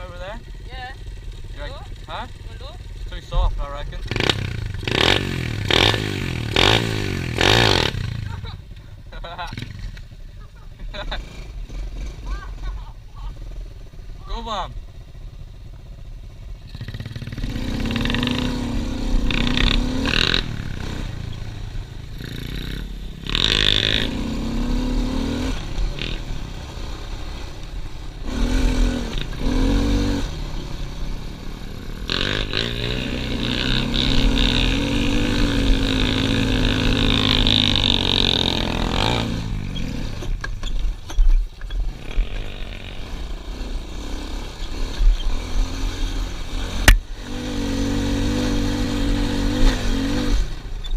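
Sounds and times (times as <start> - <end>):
motorbike engine revving: 0.0 - 50.9.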